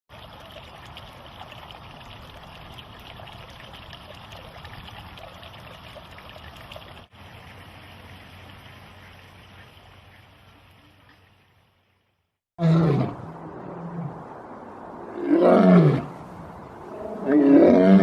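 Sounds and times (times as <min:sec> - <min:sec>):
water trickling and babbling: 0:00.1 - 0:18.0.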